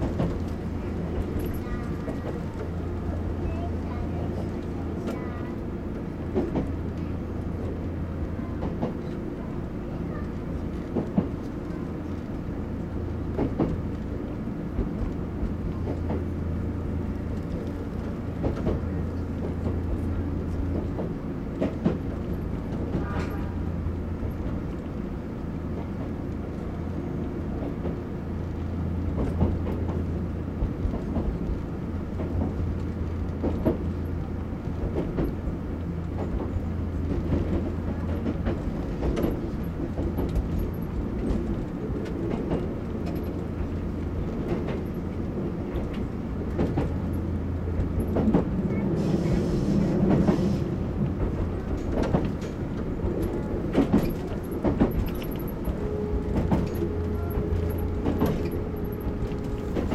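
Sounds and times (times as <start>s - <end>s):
wheels clicking on rails: 0.0s - 27.0s, 27.6s - 59.9s
electric train hum: 0.0s - 59.9s.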